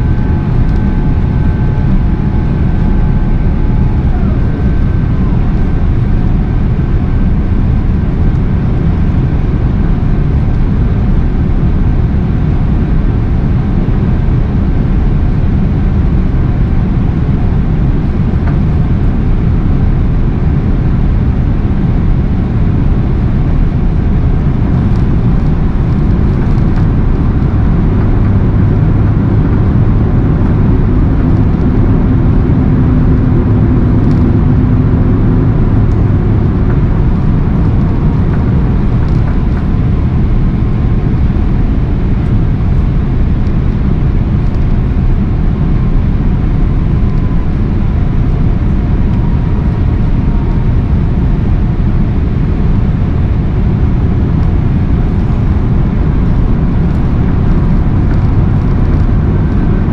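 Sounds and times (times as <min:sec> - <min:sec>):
jet engines: 0:00.0 - 0:59.9.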